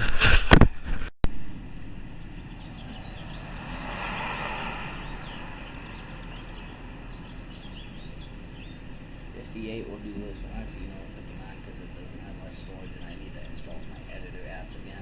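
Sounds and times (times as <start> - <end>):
passing vehicle rushing: 1.5 - 15.0.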